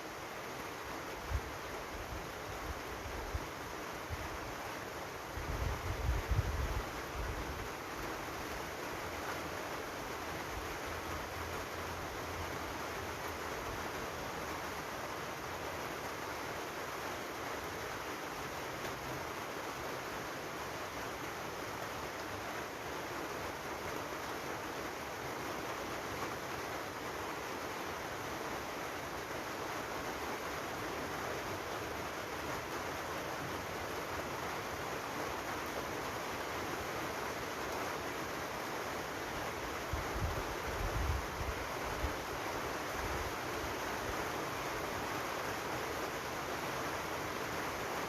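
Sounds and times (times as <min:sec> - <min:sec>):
steady rainfall: 0:00.0 - 0:48.0.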